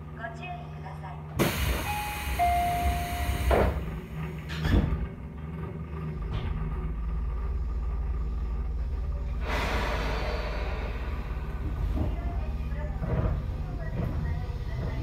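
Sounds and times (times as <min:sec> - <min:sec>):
train rumble pulling away: 0:01.4 - 0:15.0.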